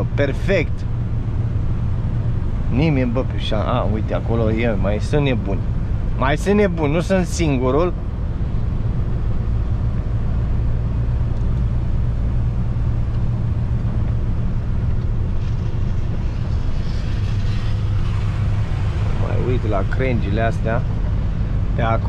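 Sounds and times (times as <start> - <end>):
truck engine and road drone: 0.0 - 22.0.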